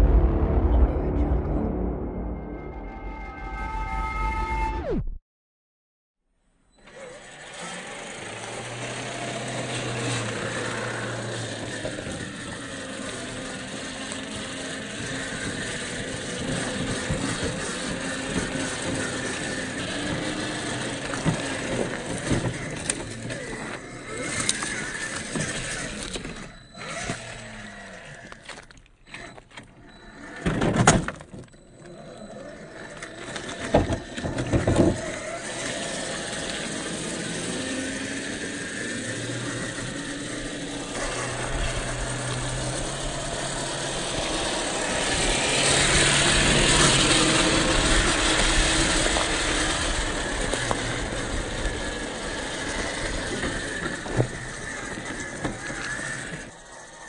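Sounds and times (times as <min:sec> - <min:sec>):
toy car motor whining: 0:06.7 - 0:57.0.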